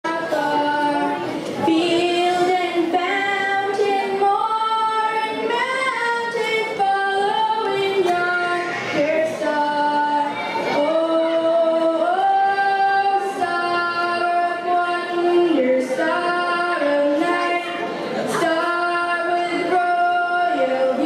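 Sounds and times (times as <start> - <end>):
woman singing slow melody: 0.1 - 21.0.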